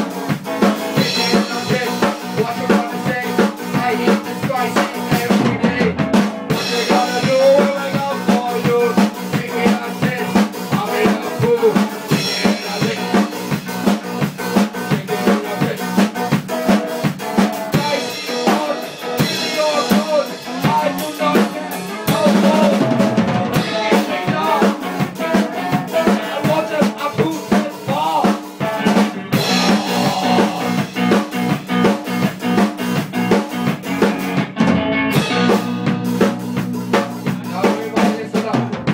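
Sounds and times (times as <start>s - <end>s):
drum kit beat: 0.0s - 38.9s
live band playing ska: 0.0s - 38.9s.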